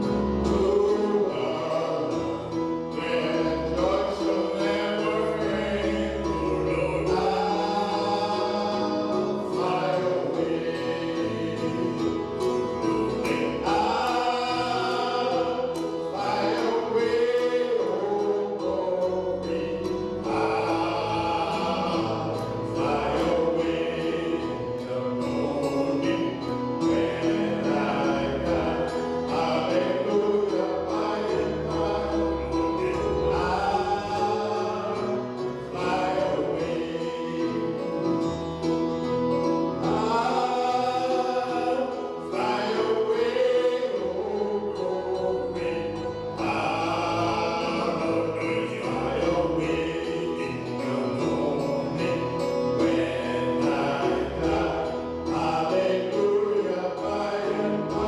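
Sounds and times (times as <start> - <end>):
men singing into microphones: 0.0 - 58.0
musical backing: 0.0 - 58.0.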